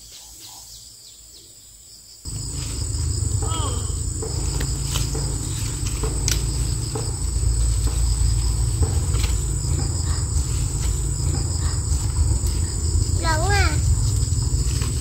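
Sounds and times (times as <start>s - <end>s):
insects chirping: 0.0s - 15.0s
low rumble: 2.3s - 15.0s
rustling undergrowth: 2.3s - 15.0s.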